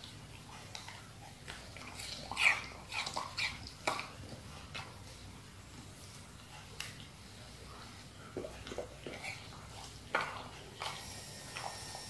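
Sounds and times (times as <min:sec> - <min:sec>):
dog chewing and lapping: 0:00.0 - 0:12.0.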